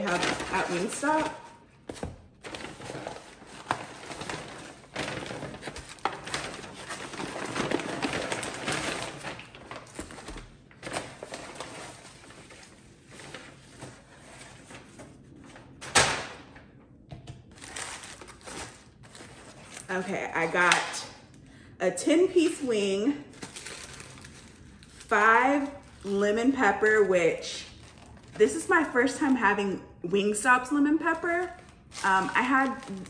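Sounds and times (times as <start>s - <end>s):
paper bag rustling and crinkling: 0.0s - 16.5s, 17.5s - 21.2s, 23.1s - 26.8s, 27.4s - 29.6s, 31.0s - 33.0s.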